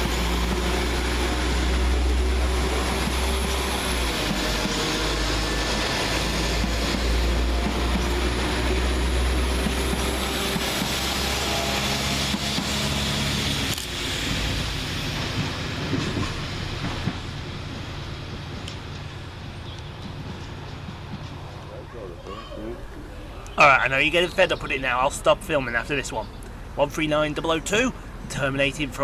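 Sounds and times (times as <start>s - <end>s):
diesel train engines rumbling: 0.0s - 29.0s.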